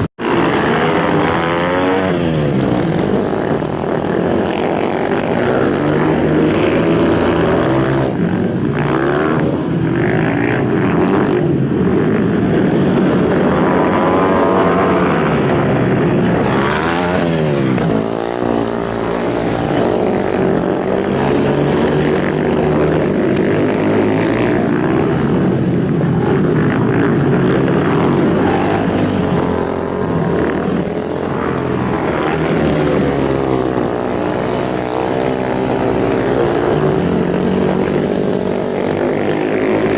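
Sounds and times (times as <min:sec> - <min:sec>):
motorcycle passing by: 0:00.0 - 0:39.9
racing motorcycle engines revving: 0:00.0 - 0:39.9.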